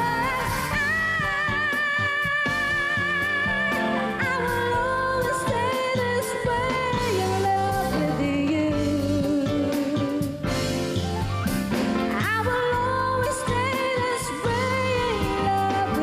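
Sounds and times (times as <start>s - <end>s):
woman singing a love song: 0.0s - 10.5s, 12.1s - 16.0s
instrumental accompaniment: 0.0s - 16.0s.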